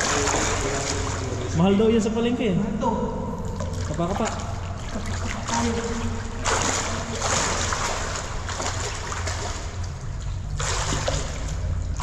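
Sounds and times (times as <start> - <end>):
water splashing: 0.0 - 2.1, 3.3 - 12.0.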